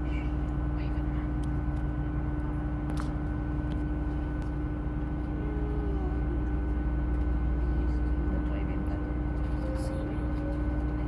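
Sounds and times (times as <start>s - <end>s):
constant hum: 0.0s - 11.0s
train diesel engine drone: 0.0s - 11.0s.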